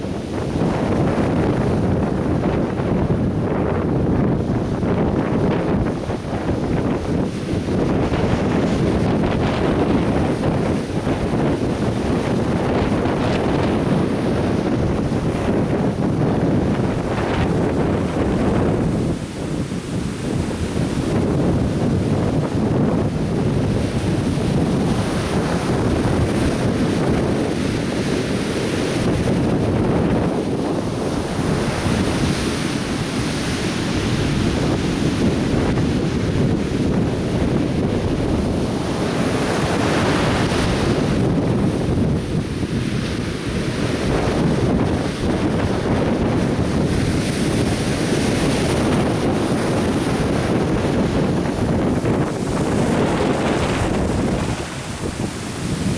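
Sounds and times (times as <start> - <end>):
surf washing onto beach: 0.0 - 55.9
wind buffeting microphone: 0.0 - 55.9.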